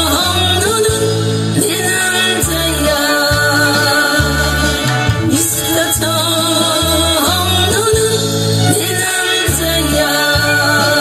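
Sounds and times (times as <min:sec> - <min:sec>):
backing track with bass line: 0:00.0 - 0:11.0
woman singing into microphone: 0:00.0 - 0:11.0.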